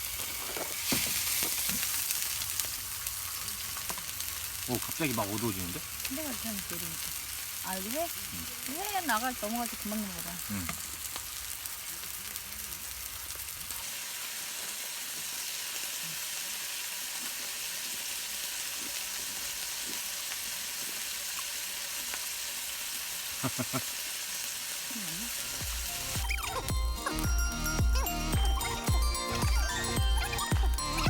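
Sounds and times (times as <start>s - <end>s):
meat sizzling in a hot pan: 0.0s - 29.9s.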